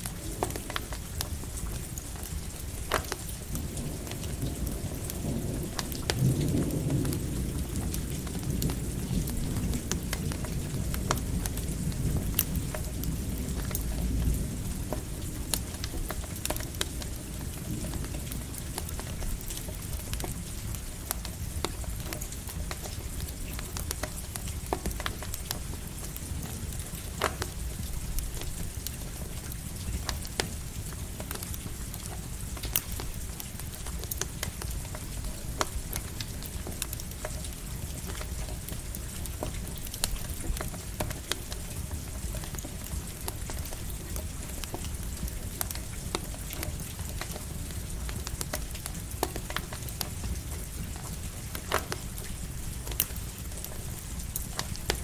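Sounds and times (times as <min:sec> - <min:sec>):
campfire crackling and popping: 0:00.0 - 0:55.0
light rain hissing: 0:00.0 - 0:55.0.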